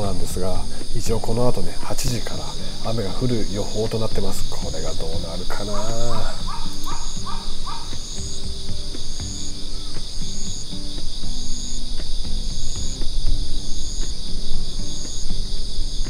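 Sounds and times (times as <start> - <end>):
insects trilling: 0.0 - 16.0
slow low background music: 0.0 - 16.0.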